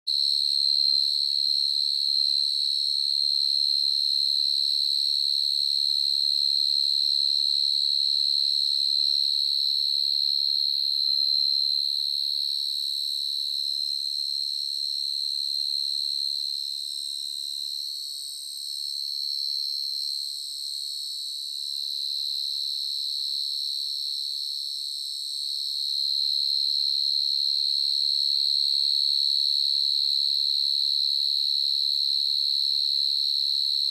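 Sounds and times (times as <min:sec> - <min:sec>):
cricket high-pitched trill: 0:00.1 - 0:33.9.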